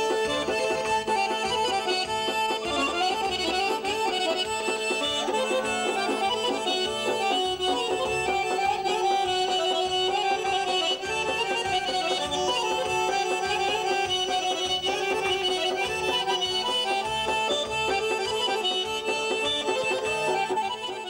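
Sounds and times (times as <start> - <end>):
button accordions playing lively tune: 0.0 - 21.0.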